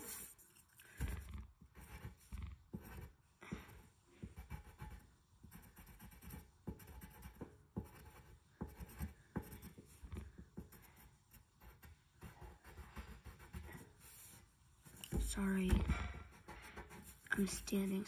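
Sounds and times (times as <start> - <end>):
pencil scratching on paper: 0.0 - 18.0.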